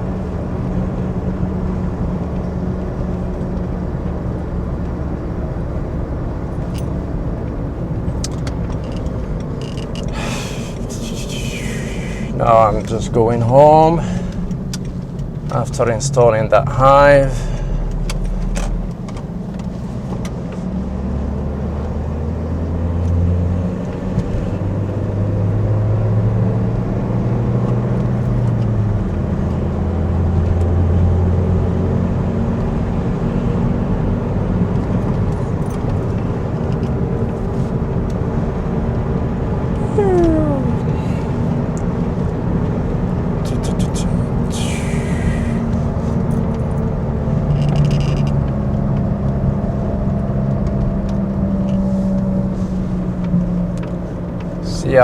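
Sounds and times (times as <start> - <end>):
car engine inside moving car: 0.0 - 55.0.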